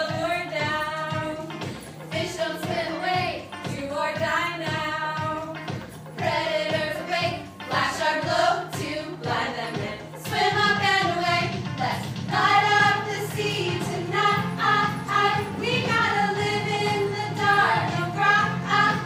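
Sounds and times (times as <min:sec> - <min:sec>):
voices singing with instruments: 0:00.0 - 0:19.0.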